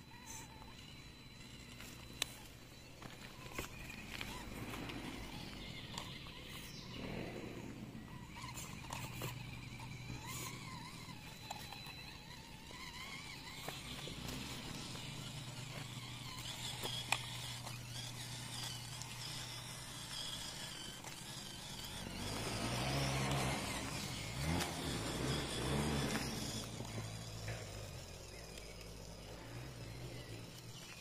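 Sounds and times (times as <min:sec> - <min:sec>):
toy car electric motor humming: 0:00.0 - 0:31.0.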